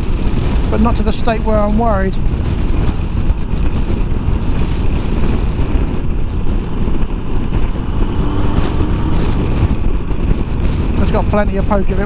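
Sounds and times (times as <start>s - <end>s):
motorcycle engine: 0.0s - 12.0s
wind buffeting microphone: 0.0s - 12.0s.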